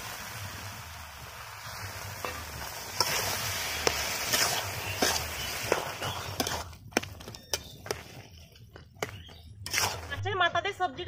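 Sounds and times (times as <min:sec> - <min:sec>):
vegetables sizzling in a metal pan: 0:00.0 - 0:10.4.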